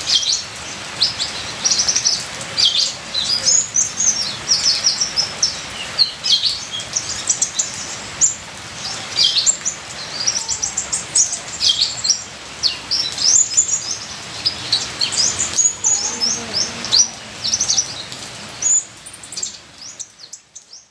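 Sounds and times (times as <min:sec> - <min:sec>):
sunbird twittering song: 0:00.0 - 0:20.9
trickling water: 0:00.0 - 0:20.9.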